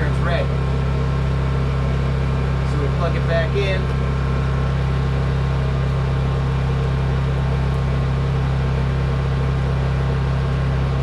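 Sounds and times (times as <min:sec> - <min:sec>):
portable generator engine humming: 0:00.0 - 0:11.0.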